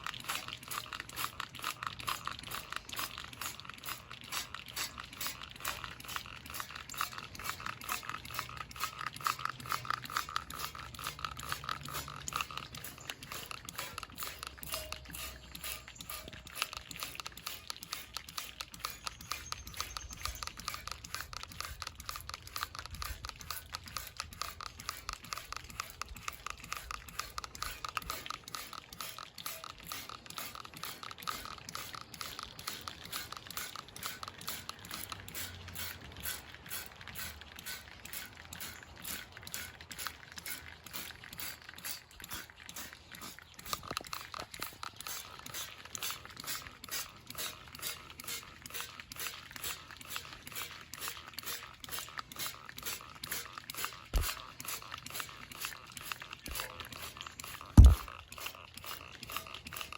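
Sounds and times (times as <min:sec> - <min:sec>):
hand scrubbing chrome: 0:00.0 - 0:59.9.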